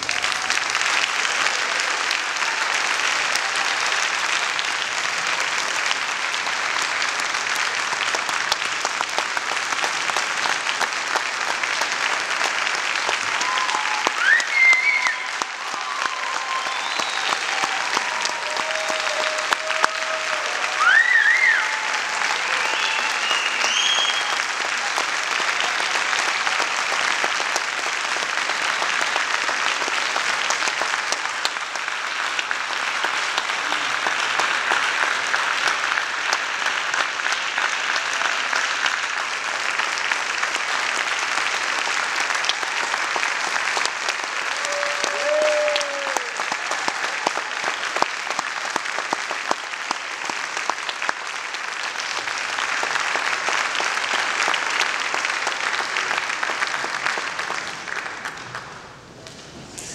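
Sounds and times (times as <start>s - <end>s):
audience applauding: 0.0s - 59.9s.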